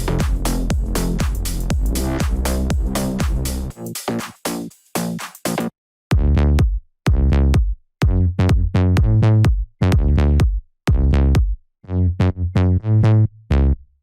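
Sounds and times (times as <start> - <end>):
punchy bass synth riff: 0.0 - 13.8.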